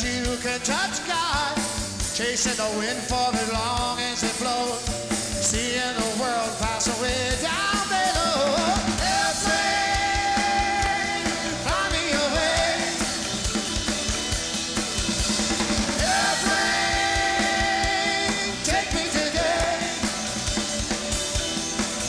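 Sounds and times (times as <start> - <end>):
bass guitar: 0.0 - 22.0
drum kit: 0.0 - 22.0
live rock band playing: 0.0 - 22.0.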